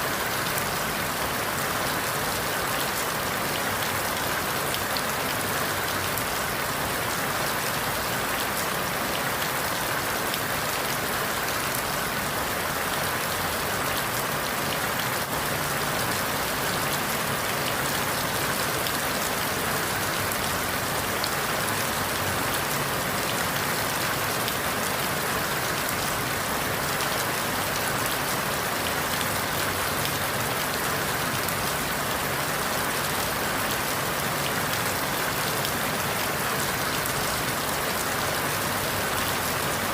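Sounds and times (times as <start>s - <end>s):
rain falling through leaves: 0.0s - 39.9s.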